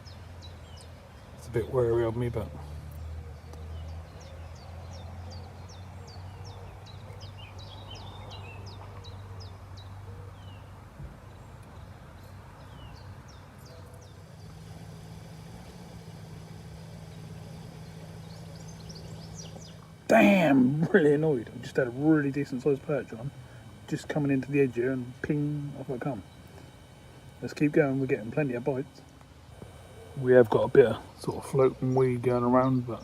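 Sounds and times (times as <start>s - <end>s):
low motor hum: 0.0s - 33.0s
small bird singing: 0.0s - 33.0s.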